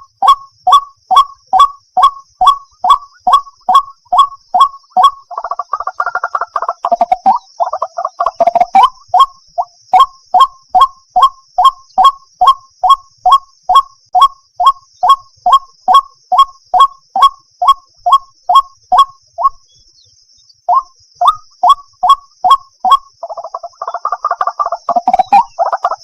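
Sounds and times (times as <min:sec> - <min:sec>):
bird calling harsh notes: 0:00.0 - 0:19.9, 0:20.6 - 0:26.0.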